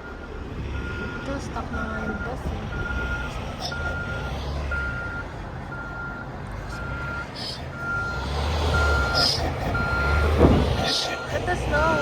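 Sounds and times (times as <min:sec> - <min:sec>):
low engine rumble: 0:00.0 - 0:12.0
reversing alarm beeping: 0:00.0 - 0:12.0.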